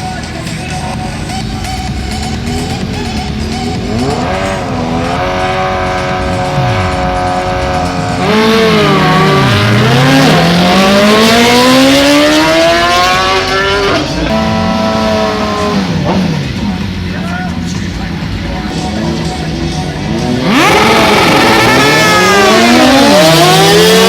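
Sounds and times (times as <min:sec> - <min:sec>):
drag racing engine revving: 0:01.8 - 0:24.0.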